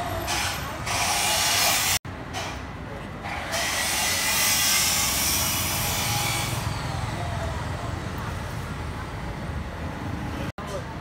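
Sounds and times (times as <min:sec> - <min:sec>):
traffic rumbling: 0:00.0 - 0:11.0.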